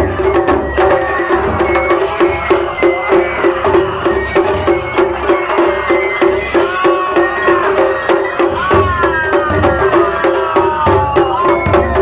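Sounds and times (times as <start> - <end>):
festival percussion: 0.0 - 12.0
high held melody: 0.0 - 12.0.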